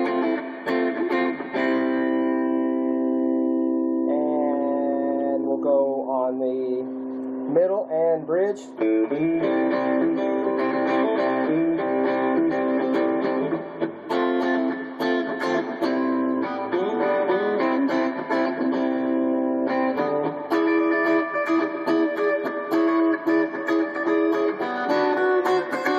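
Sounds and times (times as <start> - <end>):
electric guitar chords strummed: 0.0 - 25.9.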